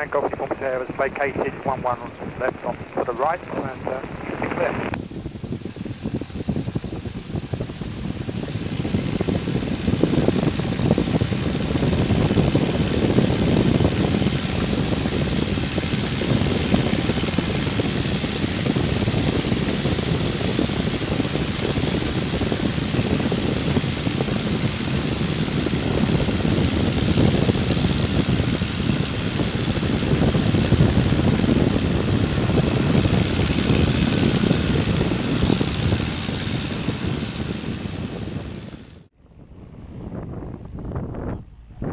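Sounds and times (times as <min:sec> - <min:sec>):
propeller plane engine: 0:00.0 - 0:41.9
rush of air: 0:02.0 - 0:41.9.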